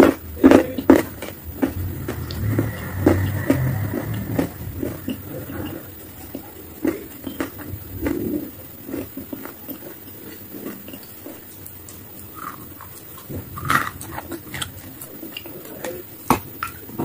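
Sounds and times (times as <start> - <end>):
person chewing wetly: 0.0 - 17.0.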